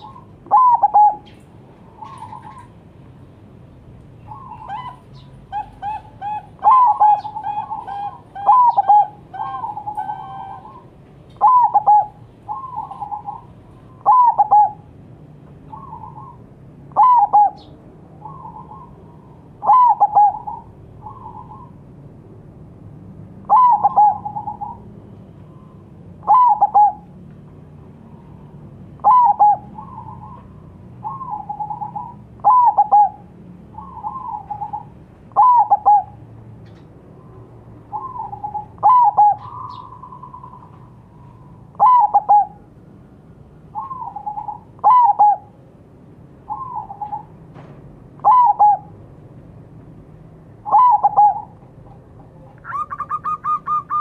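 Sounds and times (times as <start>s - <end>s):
dove cooing: 0.0s - 2.8s, 4.2s - 14.9s, 15.7s - 21.8s, 23.4s - 24.9s, 25.5s - 27.2s, 28.0s - 36.3s, 37.2s - 42.7s, 43.7s - 45.6s, 46.5s - 47.4s, 48.2s - 48.9s, 50.6s - 54.0s.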